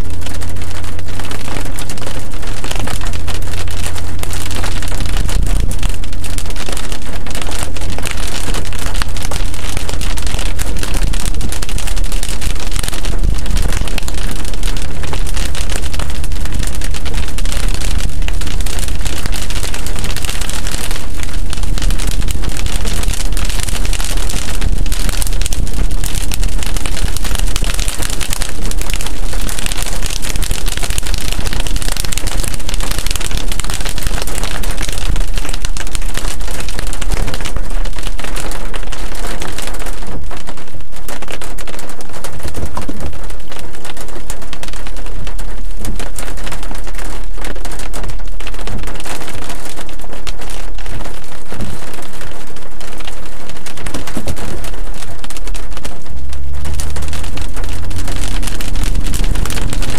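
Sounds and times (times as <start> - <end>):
rain rushing: 0.0 - 59.9
tyre noise on wet road: 0.0 - 59.9.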